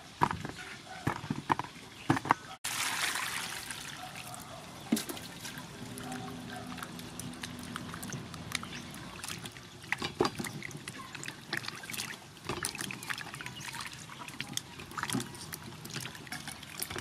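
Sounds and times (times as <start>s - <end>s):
water sloshing in a basin: 2.6s - 17.0s.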